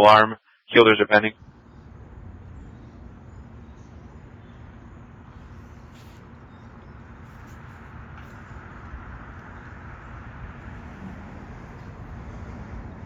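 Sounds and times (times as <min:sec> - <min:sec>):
engine idling rumble: 0:00.8 - 0:13.0.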